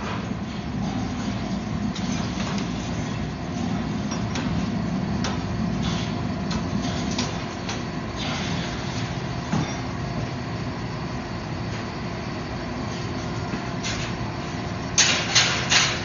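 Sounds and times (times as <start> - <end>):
machinery roar and hum: 0.0 - 16.0.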